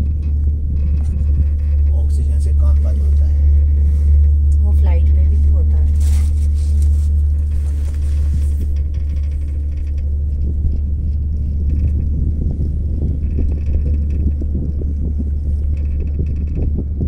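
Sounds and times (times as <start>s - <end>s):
cable car cabin rumble: 0.0s - 17.0s.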